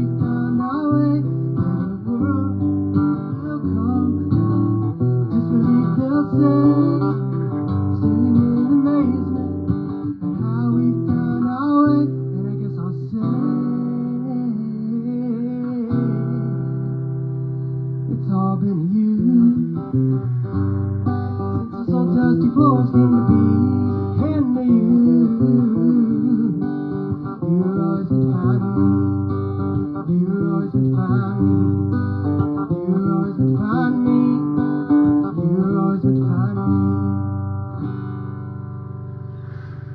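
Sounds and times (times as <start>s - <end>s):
guitar playing chords: 0.0s - 39.9s.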